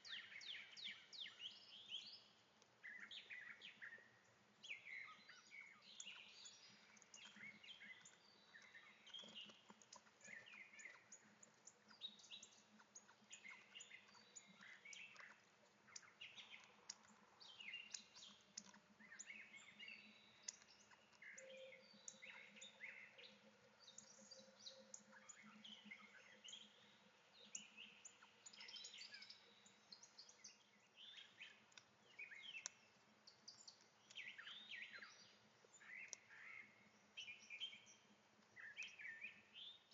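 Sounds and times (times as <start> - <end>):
distant birds chirping: 0.0 - 39.9.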